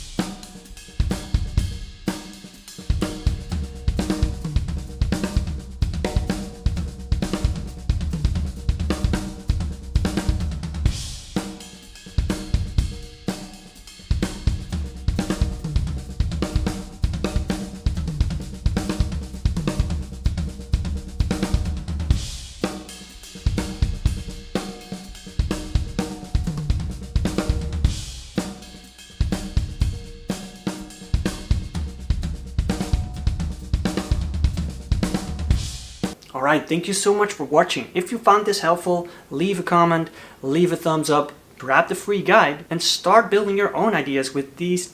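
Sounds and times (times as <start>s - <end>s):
drum kit groove and tom fills: 0.0s - 44.9s.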